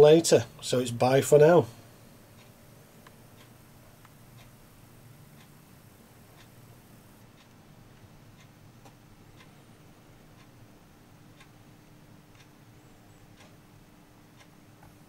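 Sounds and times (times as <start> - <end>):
faint regular ticking: 0.0 - 15.0
low steady hum: 0.0 - 15.0.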